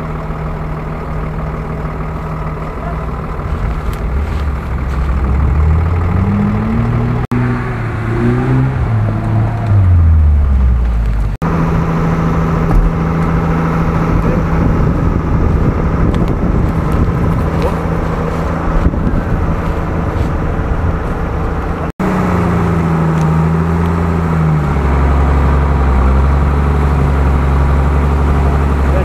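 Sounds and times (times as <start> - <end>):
engine running steadily with clatter: 0.0 - 7.3, 9.1 - 29.0
engine revving: 0.0 - 29.0.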